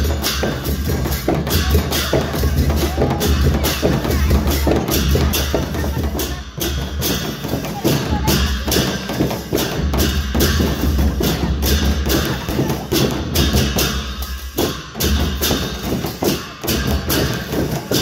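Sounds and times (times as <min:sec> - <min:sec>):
barrel drum beaten in fast rhythm: 0:00.0 - 0:18.0
clashing hand cymbals: 0:00.0 - 0:18.0.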